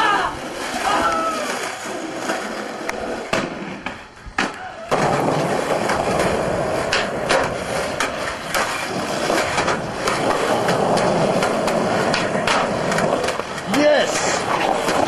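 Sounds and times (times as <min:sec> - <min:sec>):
skateboard clacks: 0:00.0 - 0:15.0
skateboard wheels rolling on concrete: 0:00.0 - 0:15.0.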